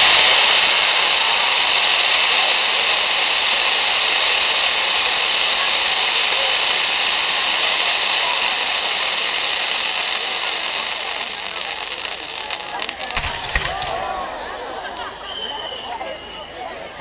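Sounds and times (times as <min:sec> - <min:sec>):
firework fountain hissing: 0:00.0 - 0:17.0.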